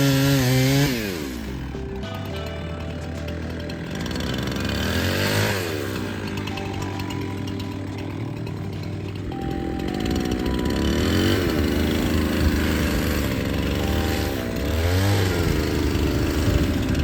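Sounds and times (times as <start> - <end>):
chainsaw engine idling and revving: 0.0 - 17.0.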